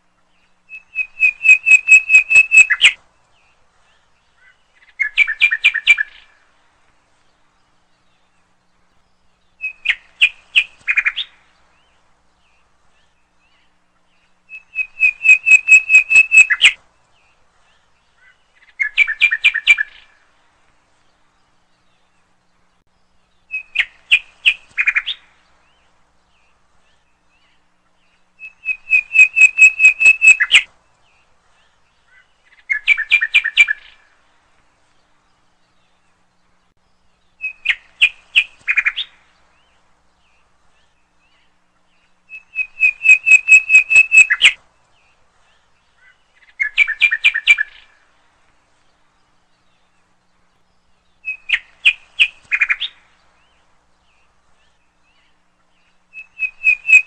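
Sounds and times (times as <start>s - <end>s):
small bird singing: 0.0s - 57.0s.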